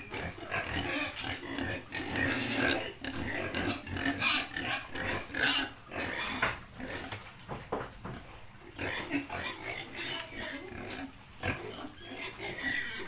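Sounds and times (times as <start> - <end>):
piglets grunting and oinking: 0.0 - 7.3, 8.1 - 13.0.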